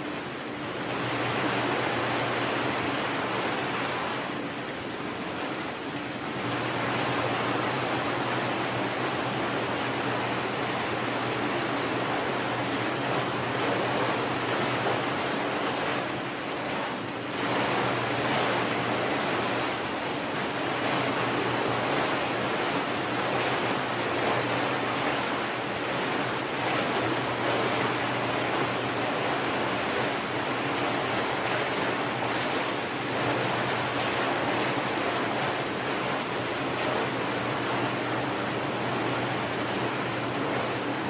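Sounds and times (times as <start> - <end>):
water running into bath: 0.8 - 41.0.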